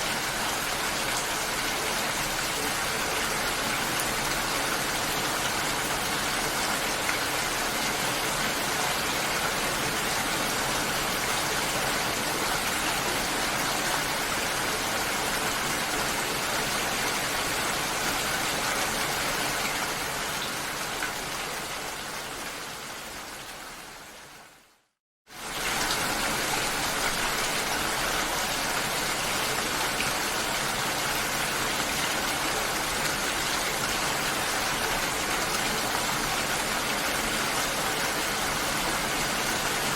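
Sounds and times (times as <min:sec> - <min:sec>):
steady hiss of water: 0:00.0 - 0:39.9.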